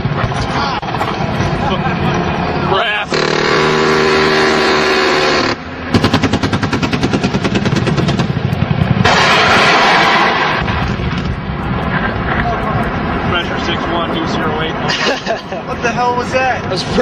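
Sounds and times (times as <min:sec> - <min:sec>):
helicopter noise: 0:00.0 - 0:16.3.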